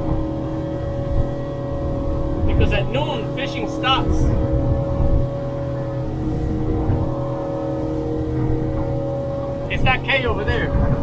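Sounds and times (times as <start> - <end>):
outboard motor running: 0.0 - 11.0
water rushing past hull: 0.0 - 11.0.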